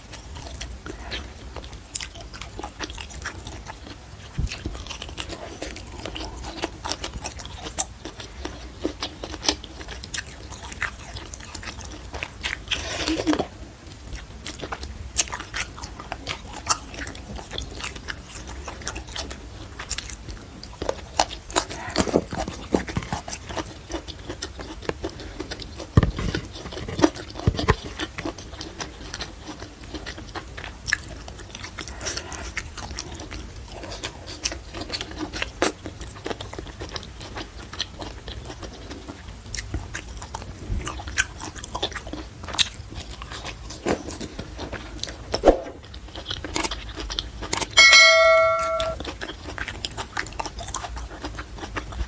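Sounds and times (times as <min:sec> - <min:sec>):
person chewing food: 0:00.0 - 0:52.0.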